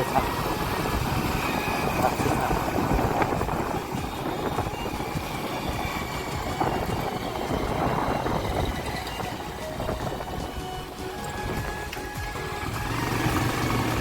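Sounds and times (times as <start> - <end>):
highway road noise: 0.0 - 14.0
vehicle engine: 0.0 - 14.0.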